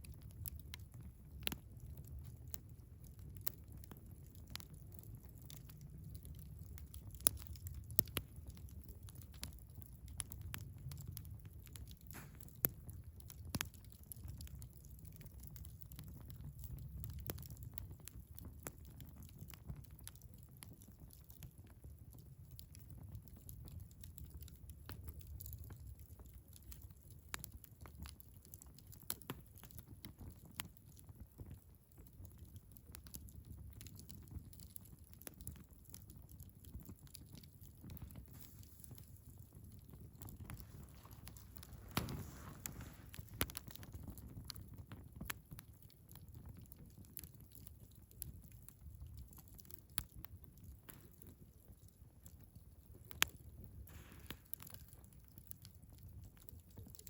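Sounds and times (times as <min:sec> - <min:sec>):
firewood crackling and popping: 0:00.0 - 0:57.0
low fire rumble: 0:00.0 - 0:57.0.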